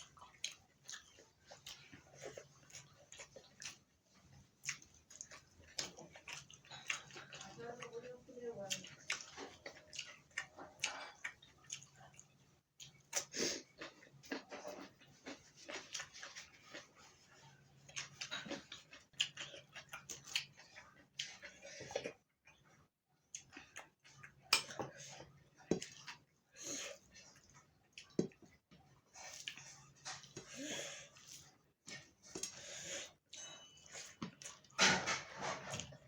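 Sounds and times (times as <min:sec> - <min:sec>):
wet chewing: 0:00.0 - 0:32.6.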